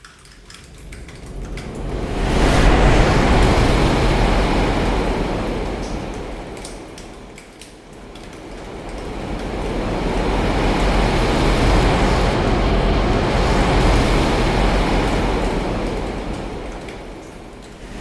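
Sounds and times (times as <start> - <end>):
steady drizzle: 0.0 - 18.0
distant thunder rumble: 1.2 - 7.3, 8.0 - 18.0.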